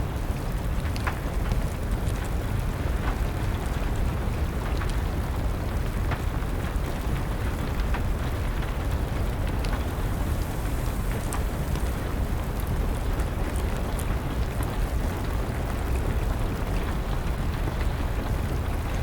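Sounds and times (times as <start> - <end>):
steady rain: 0.0 - 19.0
wood fire crackling and popping: 0.1 - 19.0.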